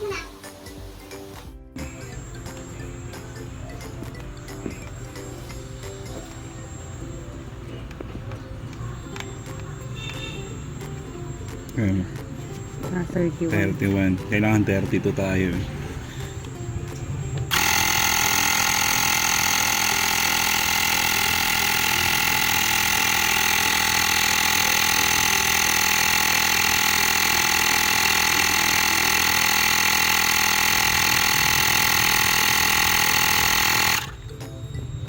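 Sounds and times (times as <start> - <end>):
electric air compressor whining: 0.0 - 35.0.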